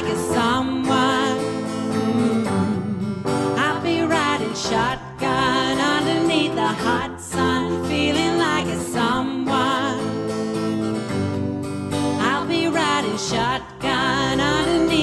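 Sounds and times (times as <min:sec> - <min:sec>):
people singing: 0:00.0 - 0:10.4, 0:12.2 - 0:15.0
strummed acoustic guitar: 0:00.0 - 0:15.0.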